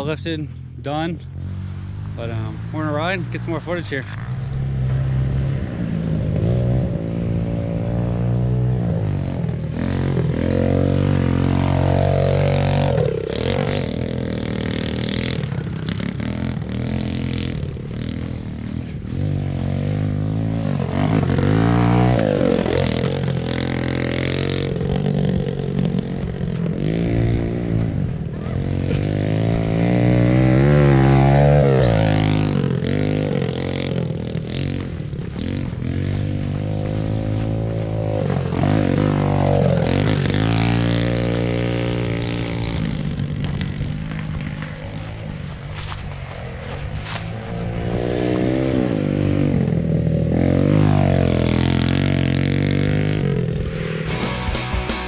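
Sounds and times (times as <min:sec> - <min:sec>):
pit bike engines revving: 0:00.0 - 0:55.0.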